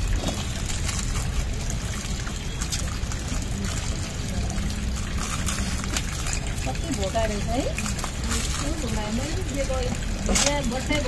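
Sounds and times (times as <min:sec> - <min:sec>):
water running and trickling: 0:00.0 - 0:11.0.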